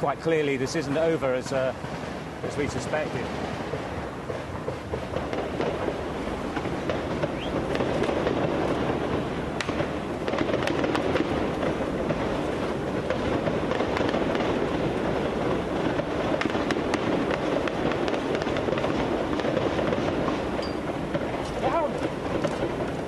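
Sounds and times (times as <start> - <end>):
low rumbling background noise: 0.0 - 23.0
gunshots echoing: 1.8 - 23.0.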